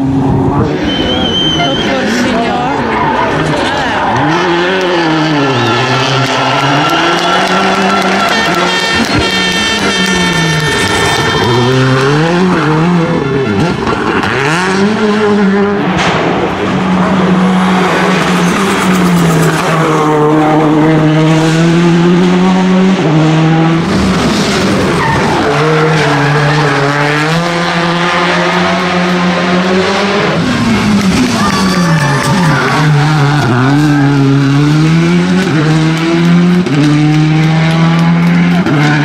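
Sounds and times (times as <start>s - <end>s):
rally car engines revving: 0.0s - 39.0s.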